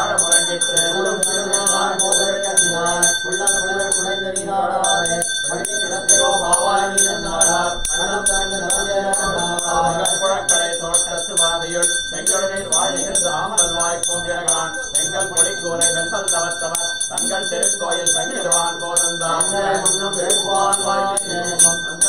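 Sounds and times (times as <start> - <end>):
brass hand bell ringing rapidly: 0.0 - 22.0
men chanting: 0.0 - 22.0.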